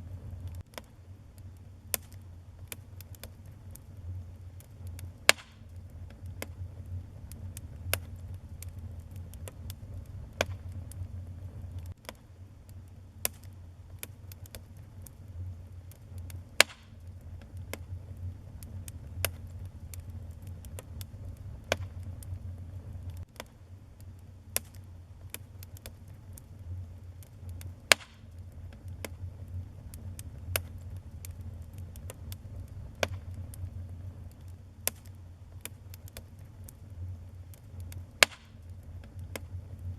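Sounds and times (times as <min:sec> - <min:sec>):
fireplace fire crackling and popping: 0:00.0 - 0:39.9
low steady rumble: 0:00.0 - 0:39.9.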